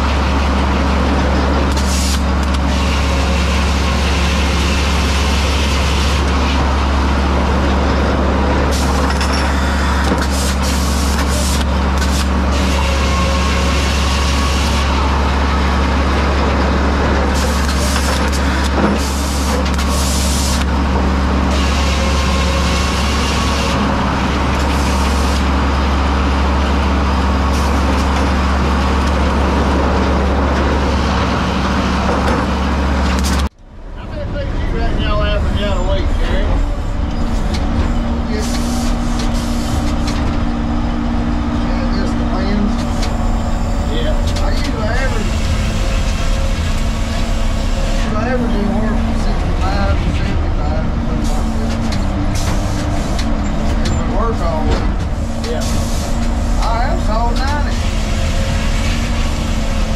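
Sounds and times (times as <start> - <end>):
sawmill machine drone: 0.0 - 59.9.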